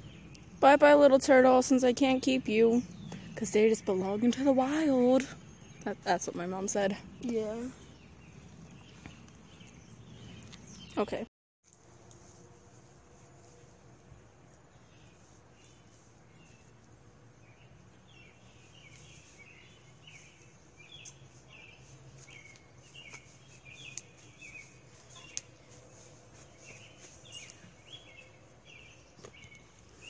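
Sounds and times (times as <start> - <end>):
bird chirping: 2.0 - 11.2, 14.6 - 30.0.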